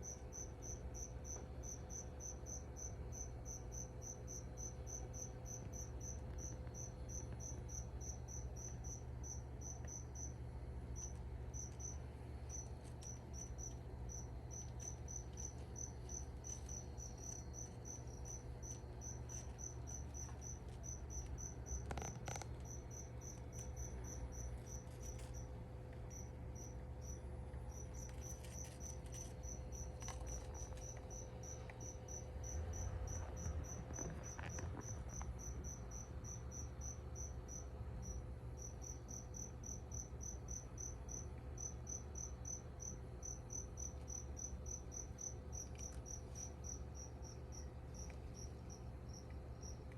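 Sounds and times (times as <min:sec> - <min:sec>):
cricket chirping: 0:00.0 - 0:49.9
low steady hum: 0:00.0 - 0:49.9.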